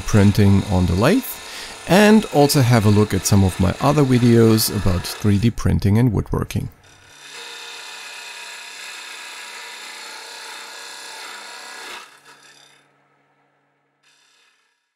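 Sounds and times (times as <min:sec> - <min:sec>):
lathe tool scraping wood: 0:00.0 - 0:05.6, 0:06.7 - 0:14.9.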